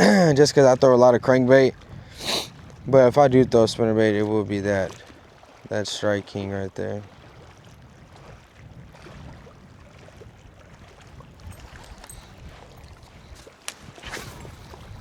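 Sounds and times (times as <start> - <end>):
wind buffeting microphone: 0.0 - 6.4, 7.0 - 15.0.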